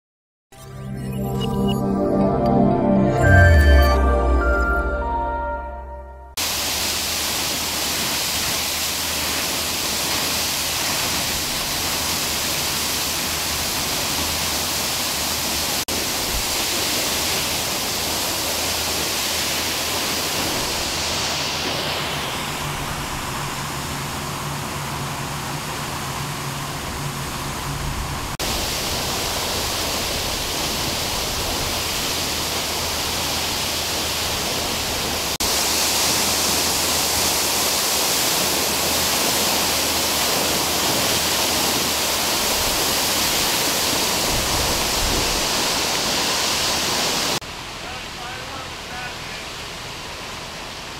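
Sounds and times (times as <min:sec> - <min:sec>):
water gushing from a hydrant: 0:06.4 - 0:50.9.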